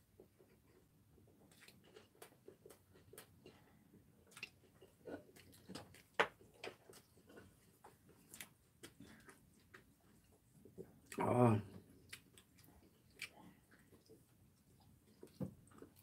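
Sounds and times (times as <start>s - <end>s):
soft chewing: 0.1s - 16.0s.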